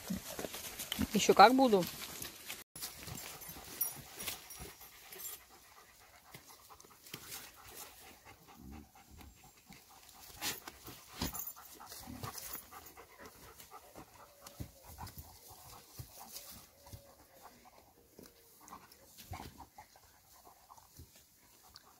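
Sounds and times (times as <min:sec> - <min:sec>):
dog panting: 0:02.9 - 0:21.9.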